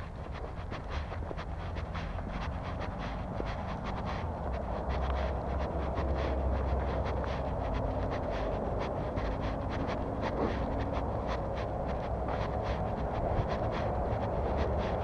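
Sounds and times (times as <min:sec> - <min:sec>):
faint distant engine hum: 0:00.0 - 0:15.0
footsteps crunching: 0:00.0 - 0:15.0
steady low rumble: 0:00.0 - 0:15.0.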